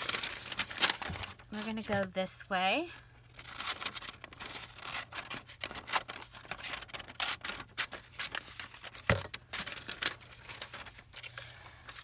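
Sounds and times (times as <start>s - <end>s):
paper rustling and crinkling: 0.0s - 2.5s, 3.2s - 12.0s.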